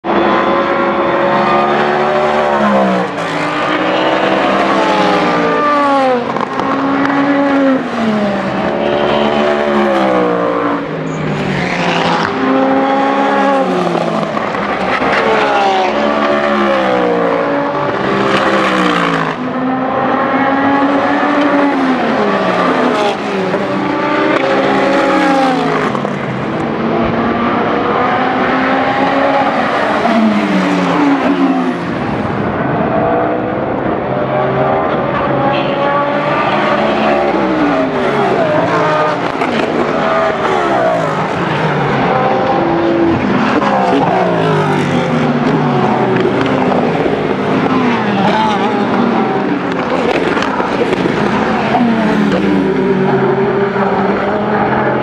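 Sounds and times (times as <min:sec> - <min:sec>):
race cars passing: 0:00.0 - 0:55.0.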